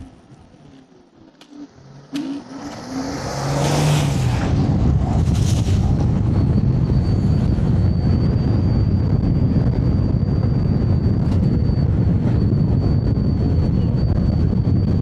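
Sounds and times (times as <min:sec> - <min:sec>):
thin high whine: 0:00.0 - 0:15.0
wind buffeting microphone: 0:02.5 - 0:15.0.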